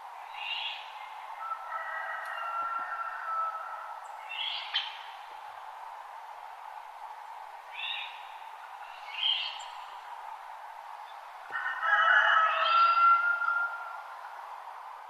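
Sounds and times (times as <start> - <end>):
forest background hiss: 0.0 - 15.0.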